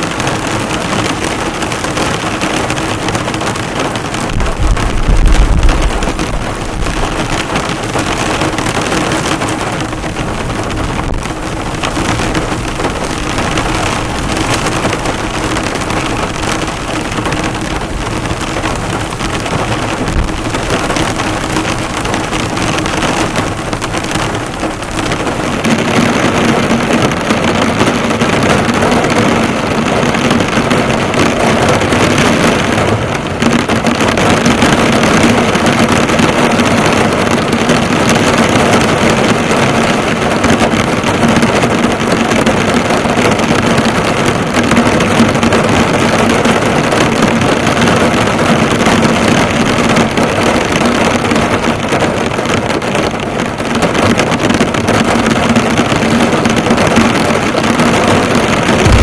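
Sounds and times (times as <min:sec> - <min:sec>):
heavy rain on car bonnet: 0:00.0 - 0:59.0.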